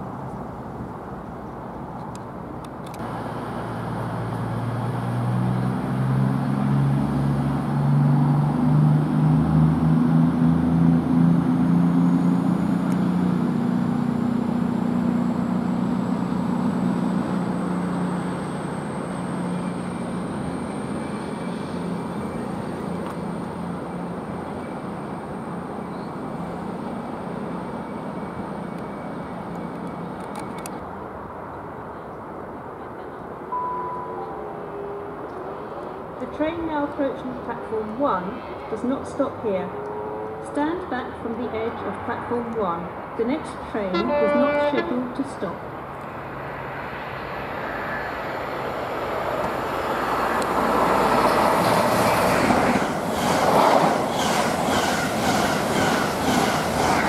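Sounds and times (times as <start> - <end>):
diesel train engines revving: 2.9 - 30.7, 34.4 - 57.0.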